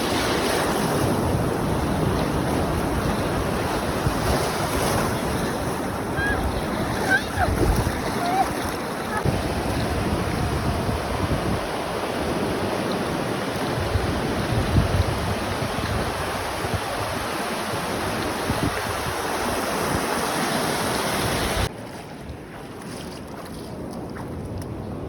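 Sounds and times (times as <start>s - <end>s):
wind buffeting microphone: 0.0s - 20.2s
water rushing: 0.0s - 21.7s.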